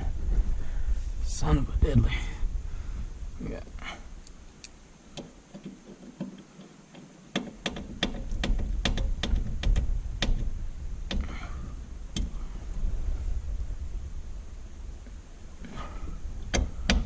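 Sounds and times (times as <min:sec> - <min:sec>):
low handling rumble: 0:00.0 - 0:05.5, 0:08.3 - 0:17.0.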